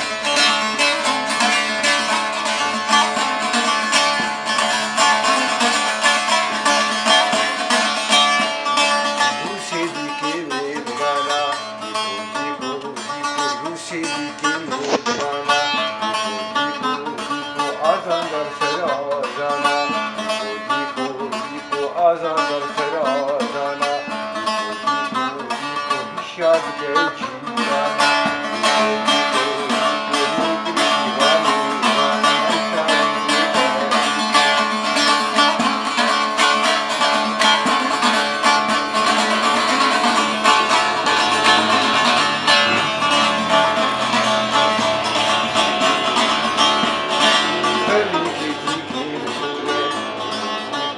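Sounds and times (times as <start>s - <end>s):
man singing: 0.0s - 50.8s
saz strumming: 0.0s - 50.9s.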